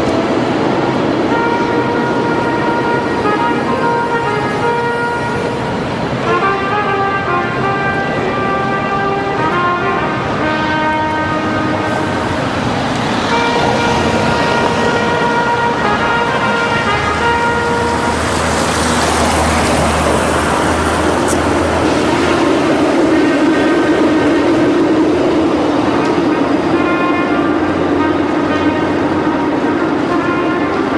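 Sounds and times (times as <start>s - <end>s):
tram moving off: 0.0s - 30.9s.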